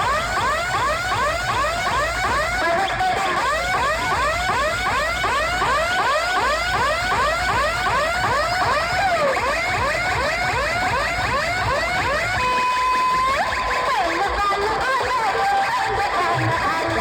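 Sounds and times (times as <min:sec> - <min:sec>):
electronic siren warble: 0:00.0 - 0:15.2.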